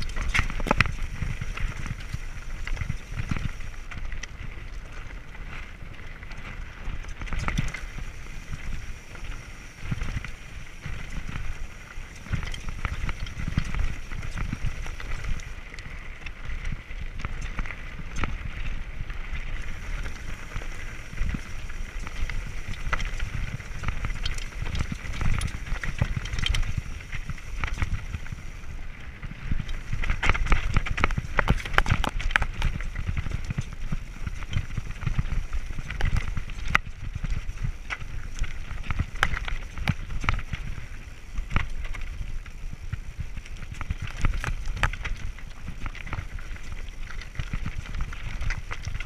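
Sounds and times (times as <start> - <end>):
bike rattling and knocking: 0.0 - 49.0
tyres crunching over stones: 0.0 - 49.0
wind rumble on microphone: 0.0 - 49.0.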